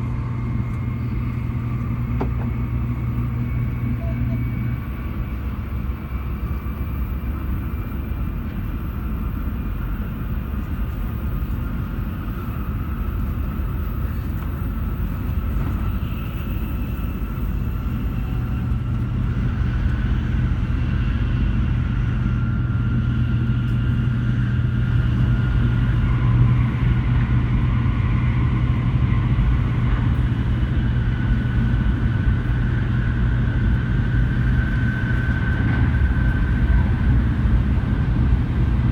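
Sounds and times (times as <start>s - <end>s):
train running with low rumble: 0.0s - 38.9s.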